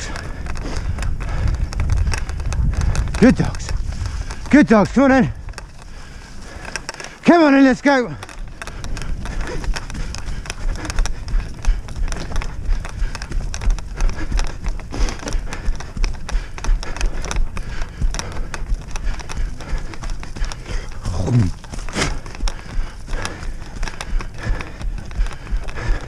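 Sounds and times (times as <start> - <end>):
wind rumble on microphone: 0.0 - 6.9, 8.2 - 26.0.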